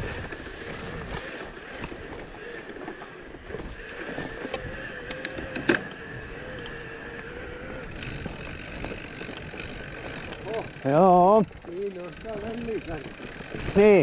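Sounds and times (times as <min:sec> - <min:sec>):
bike knocks and clacks: 0:00.0 - 0:06.0, 0:07.8 - 0:14.0
bike tyre and rattle noise: 0:00.0 - 0:14.0.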